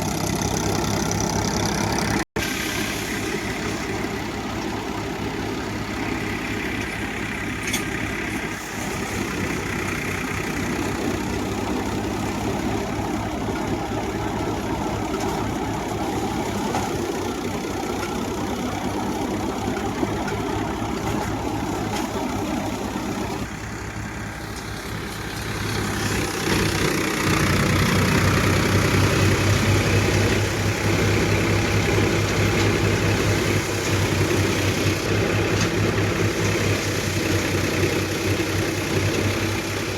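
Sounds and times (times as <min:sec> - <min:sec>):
thresher machine drone: 0:00.0 - 0:39.9
tractor engine running: 0:00.0 - 0:39.9.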